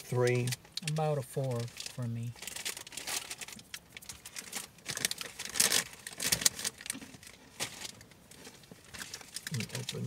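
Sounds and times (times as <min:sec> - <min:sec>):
plastic wrappers crinkling: 0:00.2 - 0:10.0.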